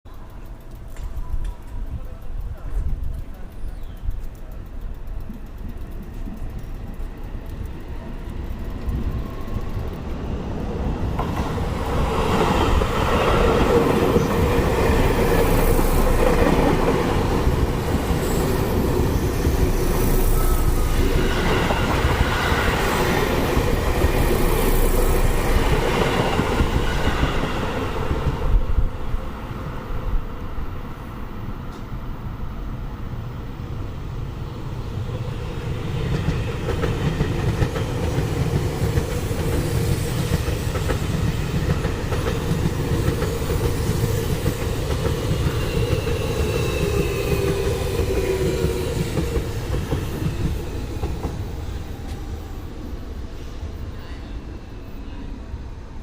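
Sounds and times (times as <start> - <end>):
electric train passing: 0.1 - 56.0.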